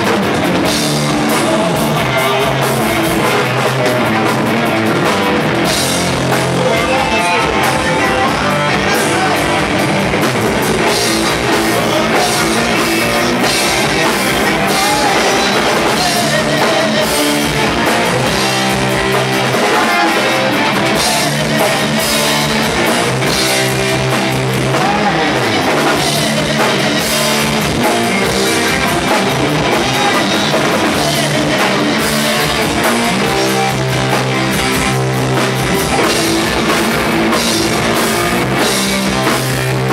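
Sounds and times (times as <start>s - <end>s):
drum kit: 0.0s - 39.9s
electric guitar: 0.0s - 39.9s
rock band playing: 0.0s - 39.9s.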